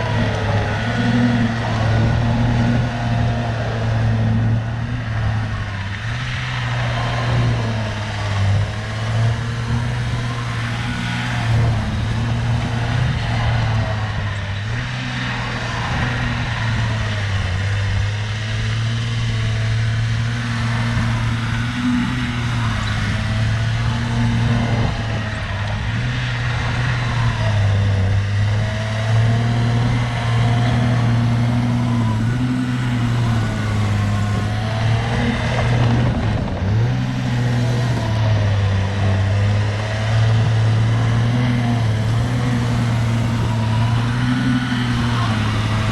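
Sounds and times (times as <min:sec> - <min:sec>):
diesel engine under load: 0:00.0 - 0:45.9
wavering whine: 0:00.0 - 0:45.9.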